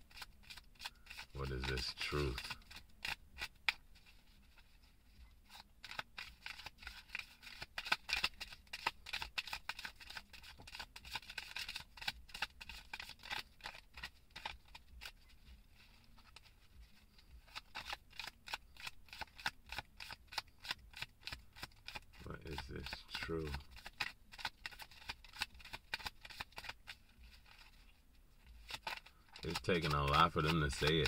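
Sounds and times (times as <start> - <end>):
cards being shuffled: 0.0 - 31.0.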